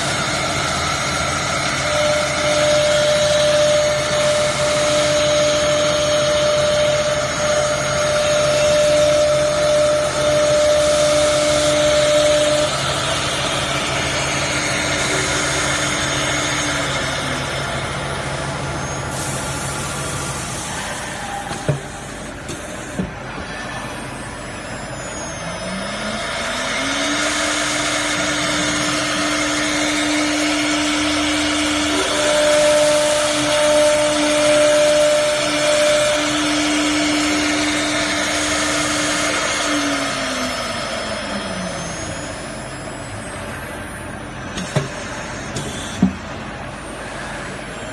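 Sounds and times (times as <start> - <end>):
spindle motors whining: 0.0 - 47.9.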